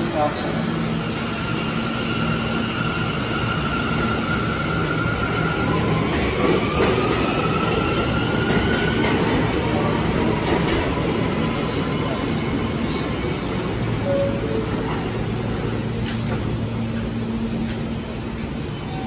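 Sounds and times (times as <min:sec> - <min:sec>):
subway train rumble and hiss: 0:00.0 - 0:19.0.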